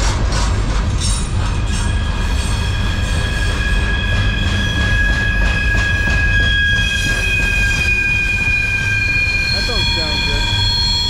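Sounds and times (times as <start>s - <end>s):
freight train wheels rumbling: 0.0s - 11.0s
high-pitched wheel squeal: 1.6s - 11.0s.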